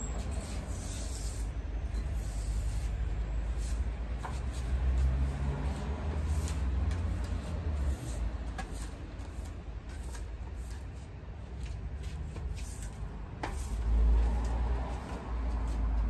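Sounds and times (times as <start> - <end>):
broom sweeping leaves: 0.2 - 11.1, 12.0 - 15.9.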